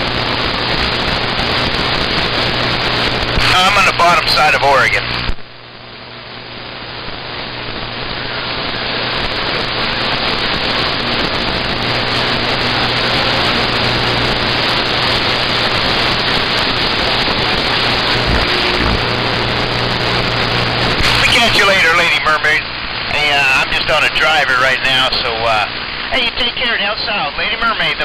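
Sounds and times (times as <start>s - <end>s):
faint hum: 0.0s - 28.0s
radio static hiss: 0.0s - 28.0s.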